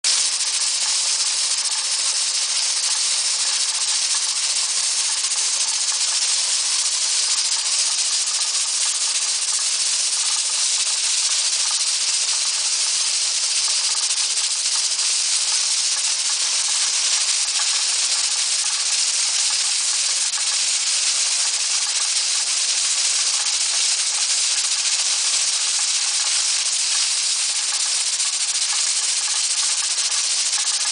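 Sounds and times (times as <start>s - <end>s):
steam hissing: 0.1s - 30.9s.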